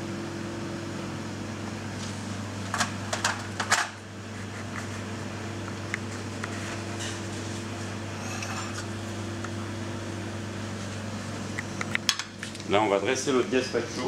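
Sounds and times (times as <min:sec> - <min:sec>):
ventilation fan humming: 0:00.0 - 0:14.0.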